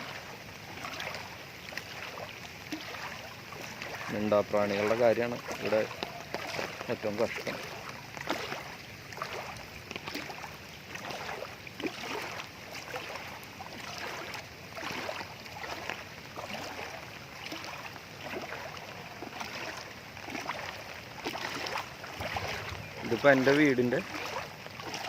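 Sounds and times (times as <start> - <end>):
wading through water sloshing: 0.0 - 25.0.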